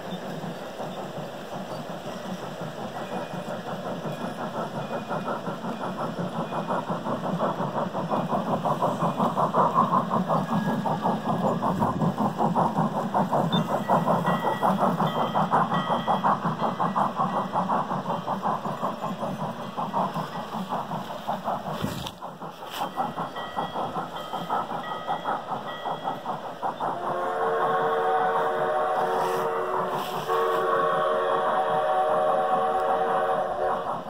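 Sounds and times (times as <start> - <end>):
model train running on track: 0.0 - 34.0.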